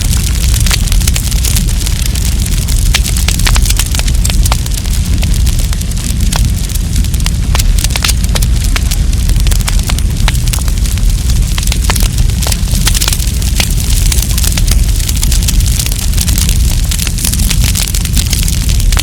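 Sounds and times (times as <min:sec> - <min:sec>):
campfire crackling: 0:00.0 - 0:19.0
low rumble of flames: 0:00.0 - 0:19.0.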